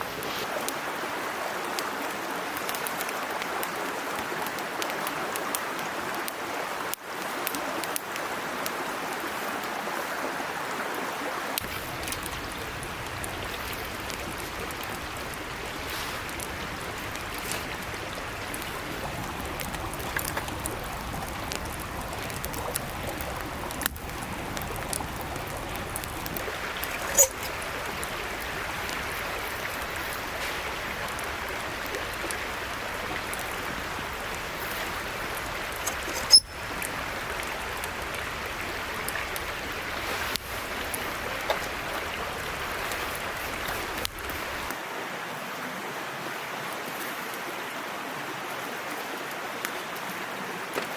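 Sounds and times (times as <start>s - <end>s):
stream babbling: 0.0s - 50.9s.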